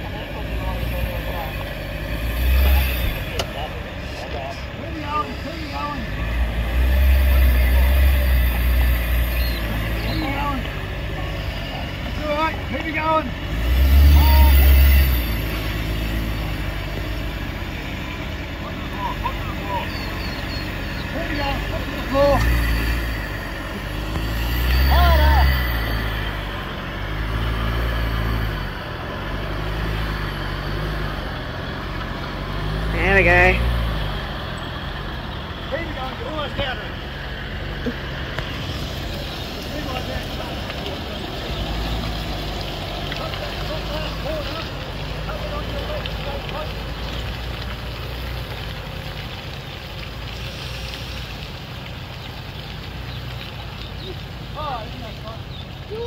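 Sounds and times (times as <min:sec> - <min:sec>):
rain hiss: 0:00.0 - 0:56.0
vehicle engine running under load: 0:00.0 - 0:56.0.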